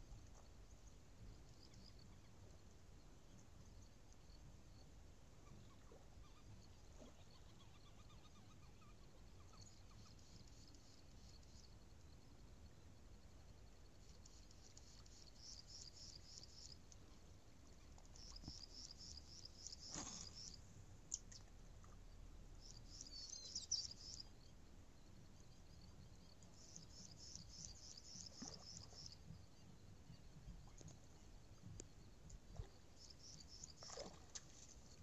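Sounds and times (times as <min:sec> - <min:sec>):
faint bird chirping: 0:00.0 - 0:35.0.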